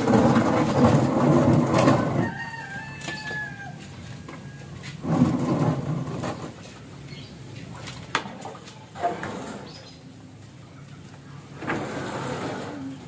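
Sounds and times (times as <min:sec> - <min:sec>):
bamboo racks rustling and scraping: 0:00.0 - 0:13.0.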